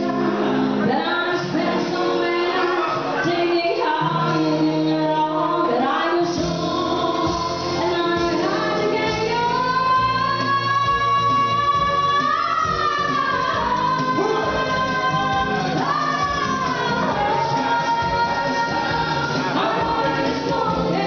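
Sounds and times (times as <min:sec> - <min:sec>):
live band playing: 0:00.0 - 0:21.0
woman singing: 0:00.0 - 0:21.0.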